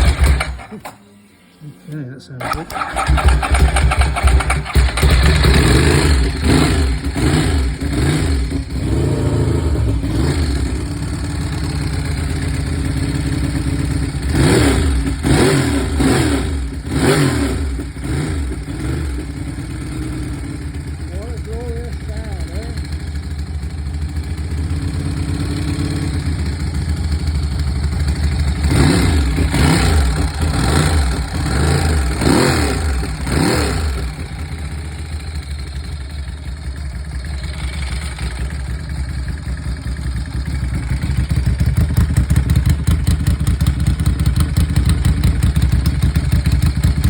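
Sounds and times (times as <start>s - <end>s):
motorcycle engine revving: 0.0s - 0.9s, 2.4s - 47.0s.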